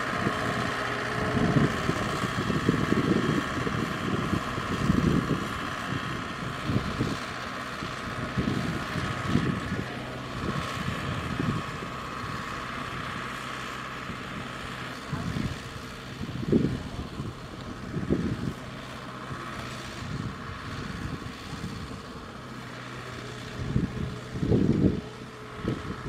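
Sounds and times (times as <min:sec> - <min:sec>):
combine diesel engine running: 0:00.0 - 0:26.0
tractor engine running: 0:00.0 - 0:26.0
wind buffeting microphone: 0:00.1 - 0:13.2, 0:14.1 - 0:18.7, 0:19.3 - 0:22.0, 0:23.5 - 0:26.0.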